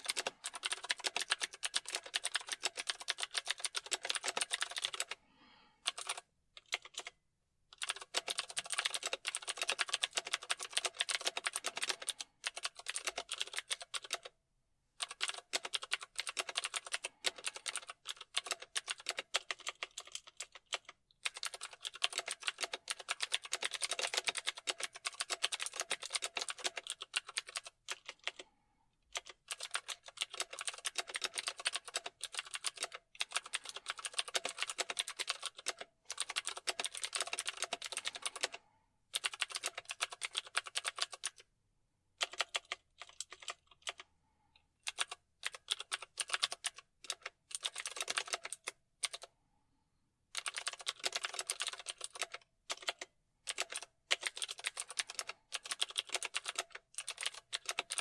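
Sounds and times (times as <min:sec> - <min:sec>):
typing on computer keyboard: 0:00.0 - 0:05.2, 0:05.8 - 0:14.4, 0:15.0 - 0:28.5, 0:29.1 - 0:41.5, 0:42.2 - 0:44.1, 0:44.8 - 0:49.3, 0:50.3 - 0:58.0.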